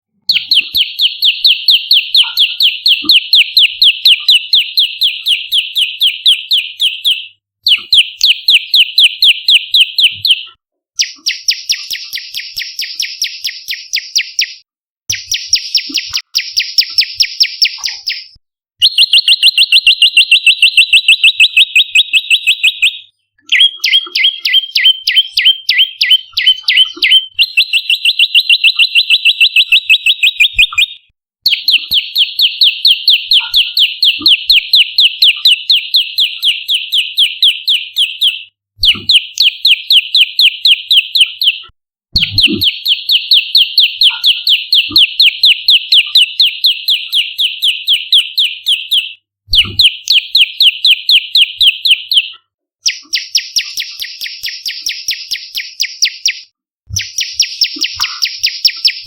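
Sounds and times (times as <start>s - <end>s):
songbird chirping: 0.2s - 41.6s, 42.2s - 59.0s.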